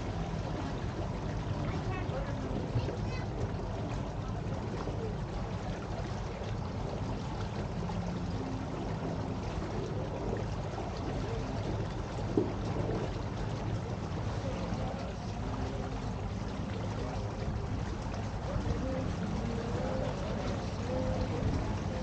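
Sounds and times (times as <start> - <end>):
boat engine rumble: 0.0 - 22.0
water washing past hull: 0.0 - 22.0.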